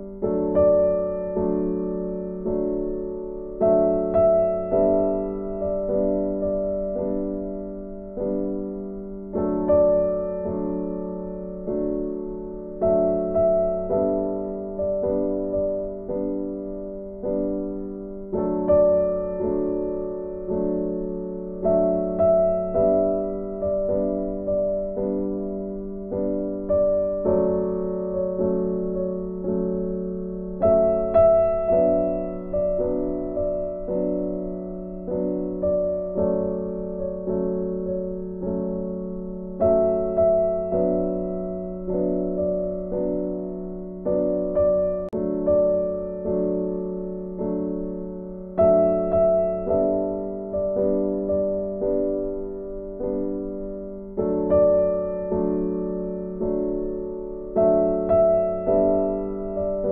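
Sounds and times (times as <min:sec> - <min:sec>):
gentle piano chords: 0:00.0 - 0:59.9.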